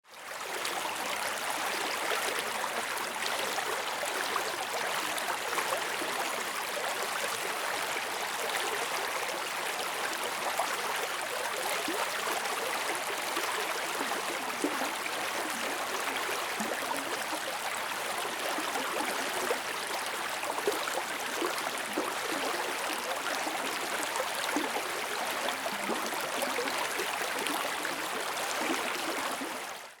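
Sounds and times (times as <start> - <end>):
water gurgling: 0.3 - 30.0.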